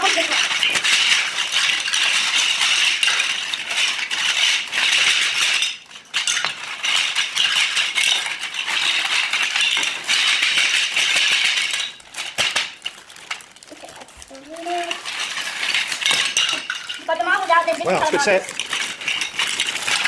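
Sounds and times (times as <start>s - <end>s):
plastic marble-run pieces clattering: 0.0s - 20.0s.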